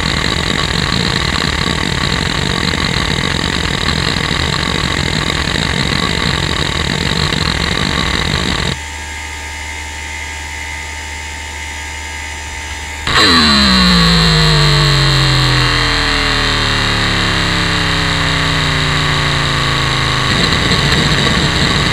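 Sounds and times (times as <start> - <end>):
buzzing drone falling in pitch: 0.0 - 8.8, 12.1 - 21.9
hum of spinning platters: 0.0 - 8.8, 12.5 - 21.9.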